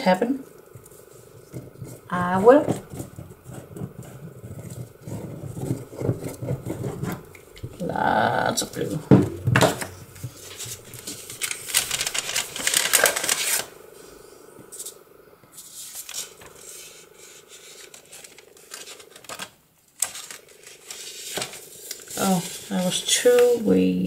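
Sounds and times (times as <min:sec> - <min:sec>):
paper rustling and crinkling: 0:00.7 - 0:07.9, 0:08.6 - 0:13.8, 0:15.6 - 0:23.8.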